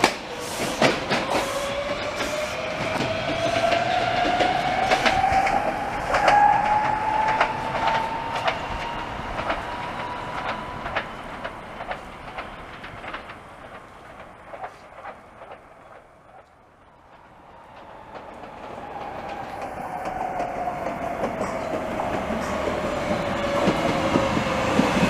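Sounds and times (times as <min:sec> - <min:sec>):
wheels clicking over rail joints: 0:00.0 - 0:25.0.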